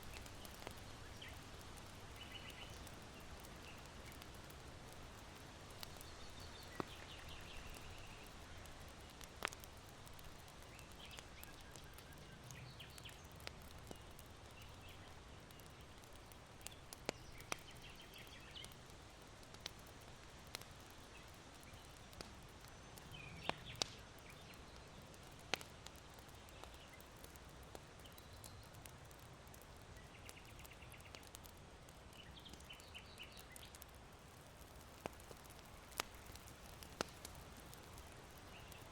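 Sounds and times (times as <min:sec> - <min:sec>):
small birds twittering: 0:00.0 - 0:16.0, 0:16.6 - 0:18.8, 0:19.9 - 0:27.1, 0:28.0 - 0:29.2, 0:29.9 - 0:33.9, 0:35.0 - 0:38.9
charcoal fire popping: 0:00.0 - 0:38.9.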